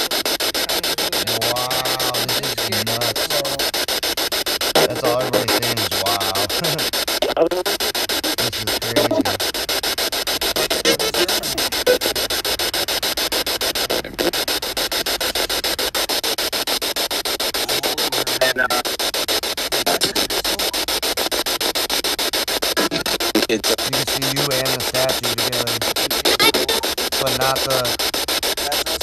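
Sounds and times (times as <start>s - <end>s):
voice-like fragments: 0.0s - 21.0s, 22.6s - 29.0s
chopped radio static: 0.0s - 29.0s.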